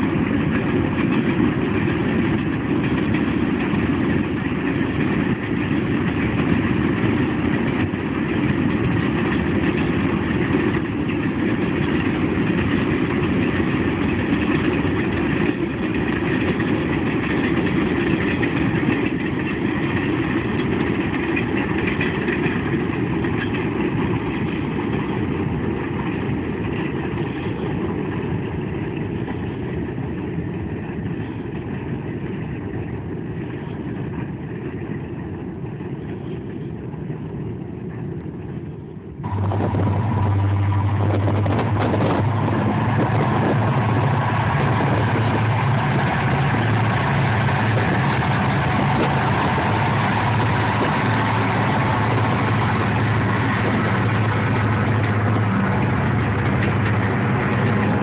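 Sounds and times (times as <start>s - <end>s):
diesel locomotives passing: 0.0s - 58.0s
steady low rumble: 0.0s - 58.0s.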